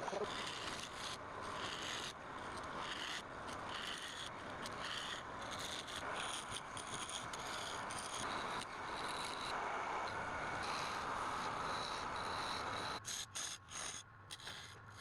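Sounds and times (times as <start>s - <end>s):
lathe tool scraping wood: 0.0s - 15.0s.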